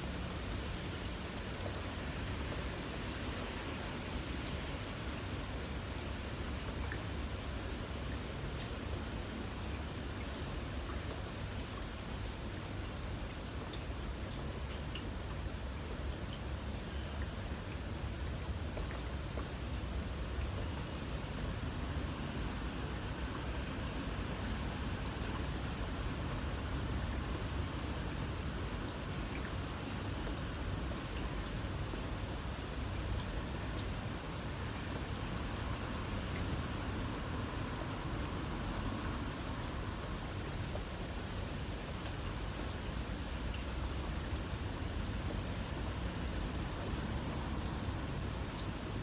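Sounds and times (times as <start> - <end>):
high-pitched insect trill: 0.0 - 49.0
light rain falling: 0.0 - 49.0.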